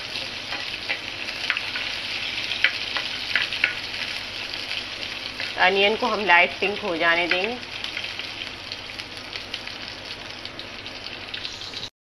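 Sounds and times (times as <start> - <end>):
onions sizzling in hot oil: 0.0 - 11.9.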